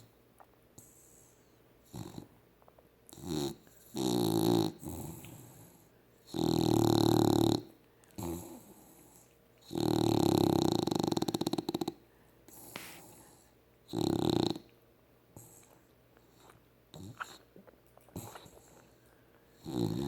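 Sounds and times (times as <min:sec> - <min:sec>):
dog snoring: 0:00.8 - 0:02.4, 0:03.1 - 0:14.7, 0:16.3 - 0:17.5, 0:18.1 - 0:20.0.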